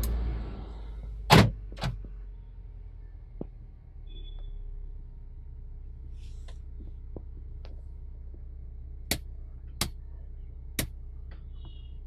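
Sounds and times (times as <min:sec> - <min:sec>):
steady low hum: 0:01.9 - 0:12.0.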